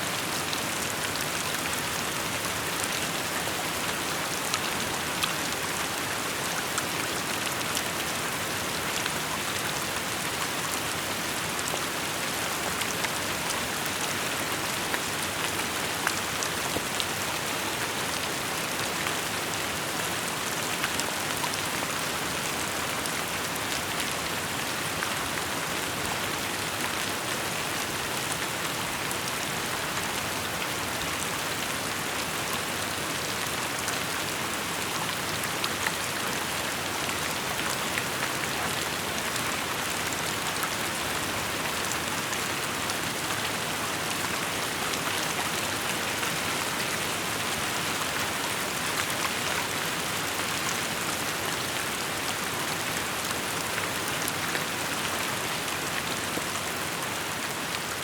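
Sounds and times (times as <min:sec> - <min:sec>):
steady rain pattering: 0:00.1 - 0:58.0.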